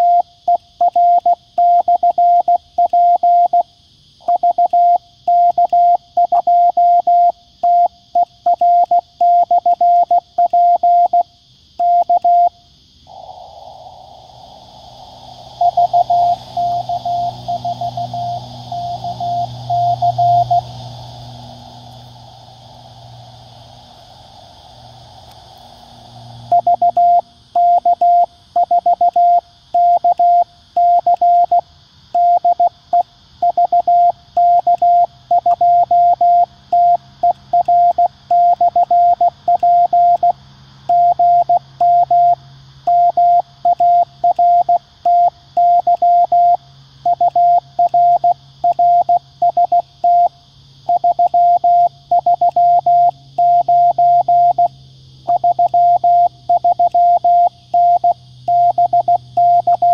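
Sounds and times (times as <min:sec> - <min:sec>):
morse code beeps: 0:00.0 - 0:03.6, 0:04.2 - 0:11.2, 0:11.8 - 0:12.5, 0:15.6 - 0:20.6, 0:26.5 - 0:31.6, 0:32.2 - 0:50.3, 0:50.9 - 0:54.7, 0:55.3 - 0:59.9.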